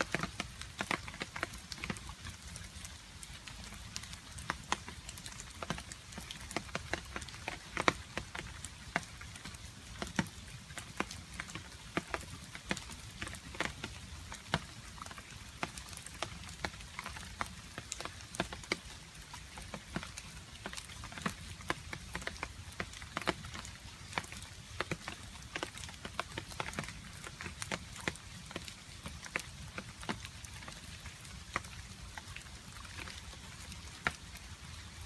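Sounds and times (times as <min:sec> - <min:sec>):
rain: 0:00.0 - 0:35.0.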